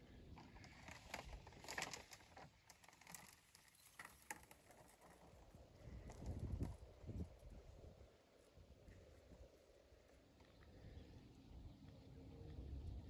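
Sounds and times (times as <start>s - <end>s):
soil and roots rustling: 0.0s - 10.9s.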